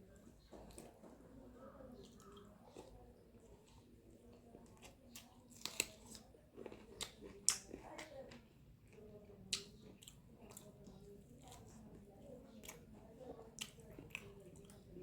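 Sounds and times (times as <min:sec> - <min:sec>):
wet chewing: 0:01.9 - 0:15.0.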